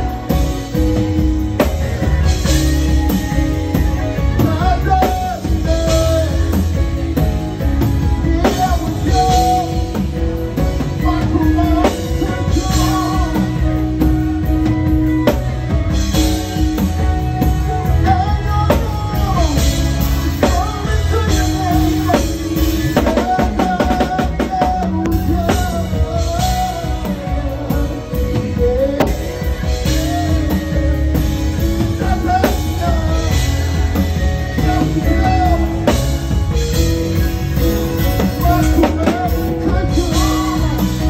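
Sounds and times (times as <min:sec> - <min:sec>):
bass: 0:00.0 - 0:41.0
drum kit played with sticks: 0:00.0 - 0:41.0
guitar: 0:00.0 - 0:41.0
person singing: 0:00.0 - 0:41.0.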